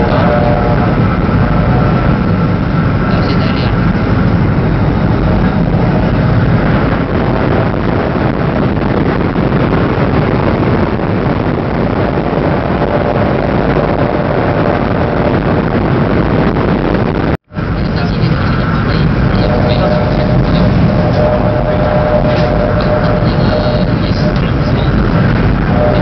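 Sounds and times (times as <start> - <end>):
train rumbling inside carriage: 0.0 - 26.0.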